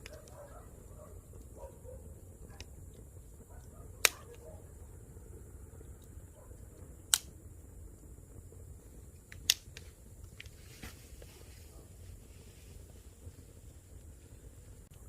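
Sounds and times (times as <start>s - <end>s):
campfire crackling pops: 0.0s - 15.0s
low steady rumble: 0.0s - 15.0s.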